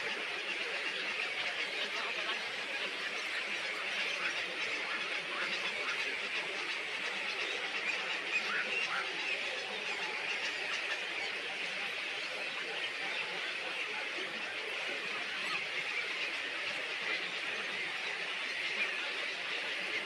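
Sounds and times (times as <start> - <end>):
small birds chirping chorus: 0.0 - 20.0.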